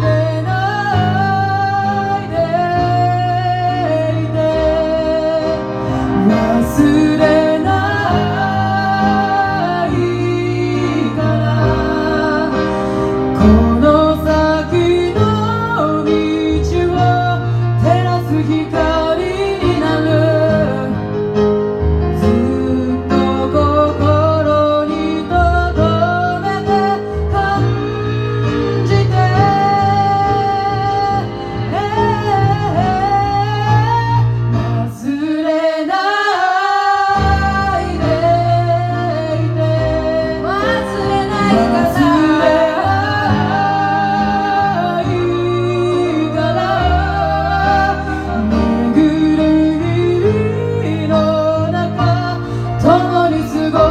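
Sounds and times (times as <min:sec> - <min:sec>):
woman singing: 0:00.0 - 0:21.1, 0:22.2 - 0:53.9
instrumental accompaniment: 0:00.0 - 0:53.9.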